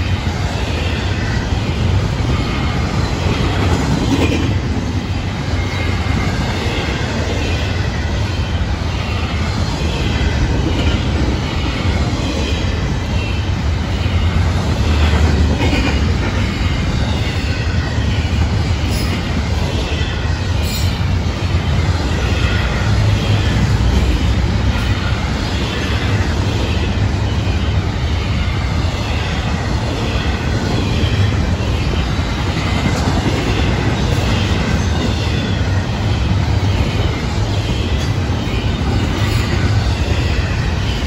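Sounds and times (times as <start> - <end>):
steel wheels rumbling on rails: 0.0 - 41.0.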